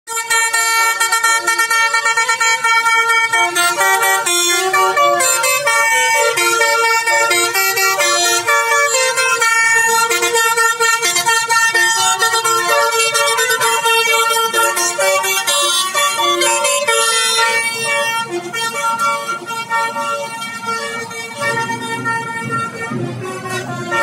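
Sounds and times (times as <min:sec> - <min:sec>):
multi-tone horn melody: 0:00.1 - 0:24.0.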